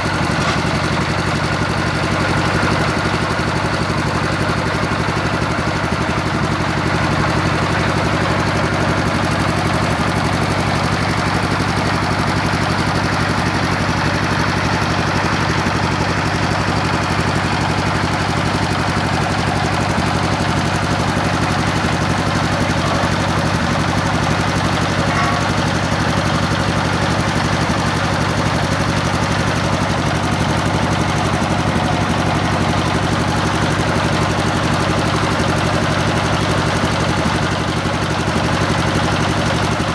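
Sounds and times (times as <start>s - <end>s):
drilling rig motor drone: 0.0s - 39.9s.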